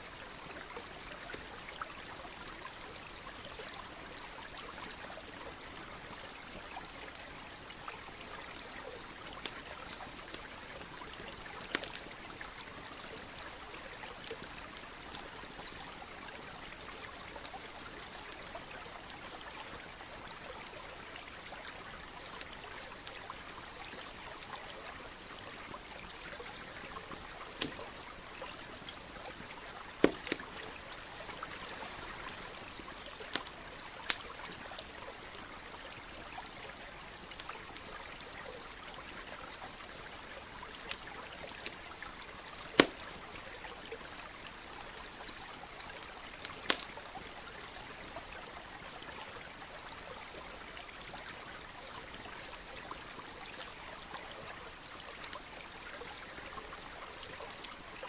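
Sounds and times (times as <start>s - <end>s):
campfire crackling and popping: 0.0s - 58.0s
stream trickling: 0.0s - 58.0s.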